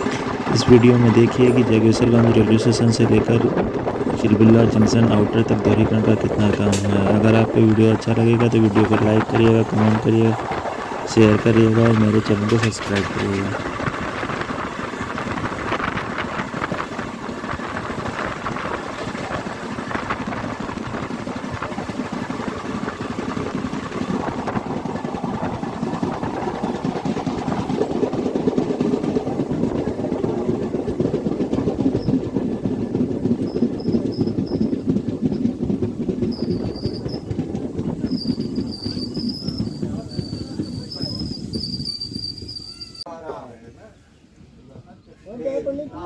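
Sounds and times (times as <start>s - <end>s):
train rumbling and rattling on track: 0.0s - 43.1s.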